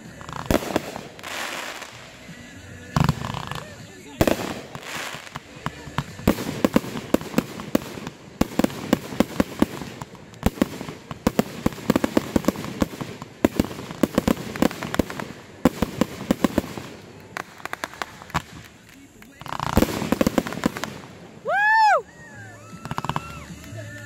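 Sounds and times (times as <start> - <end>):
fireworks popping and cracking: 0.0 - 24.0.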